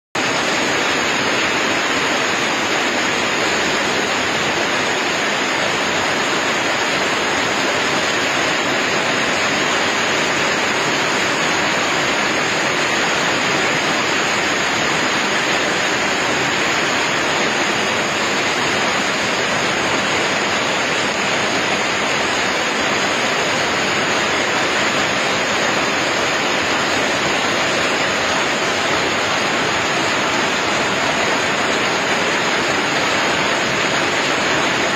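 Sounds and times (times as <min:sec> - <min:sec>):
hail and rain pouring down: 0:00.2 - 0:34.9.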